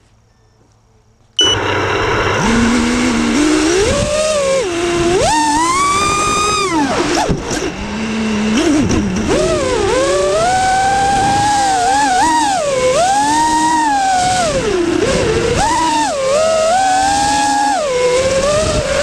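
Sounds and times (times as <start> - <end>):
drone propellers buzzing whine: 0.0 - 19.0.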